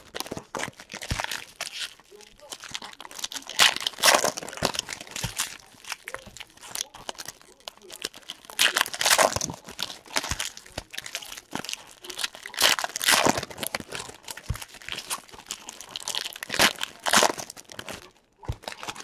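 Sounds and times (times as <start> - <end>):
foil wrappers crinkling: 0.0 - 19.0.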